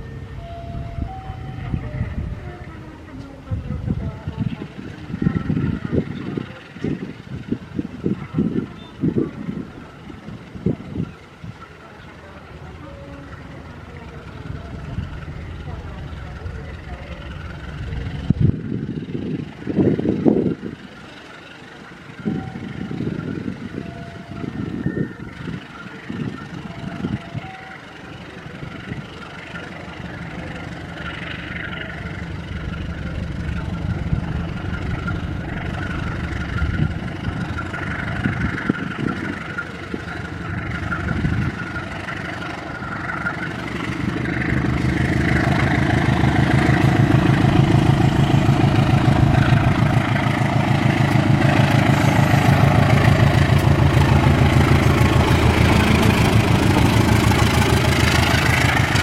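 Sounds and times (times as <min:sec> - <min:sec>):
diesel locomotive engine throbbing: 0:00.0 - 0:59.0.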